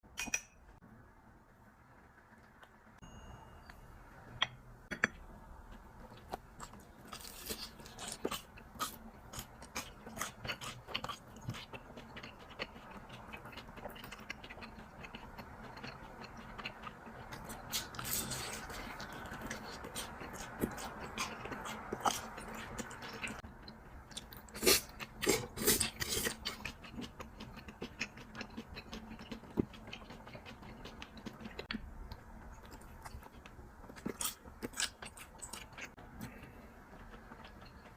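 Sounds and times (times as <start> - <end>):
chewing something crunchy: 6.1 - 23.4, 24.1 - 37.9.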